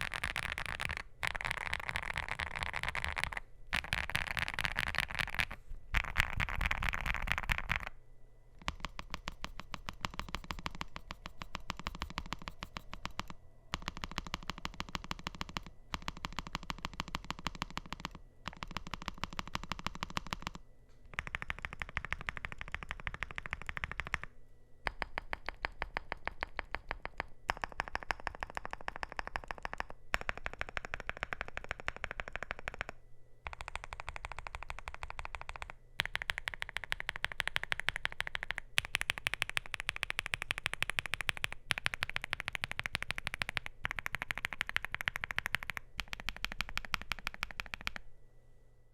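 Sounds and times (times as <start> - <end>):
fast mechanical keyboard typing: 0.0 - 7.9, 8.6 - 24.3, 24.9 - 48.0.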